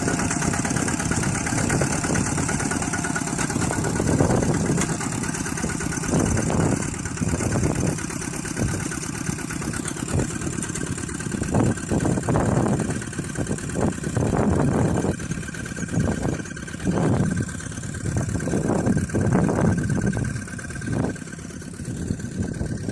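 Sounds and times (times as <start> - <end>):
engine running at low speed: 0.0 - 22.9.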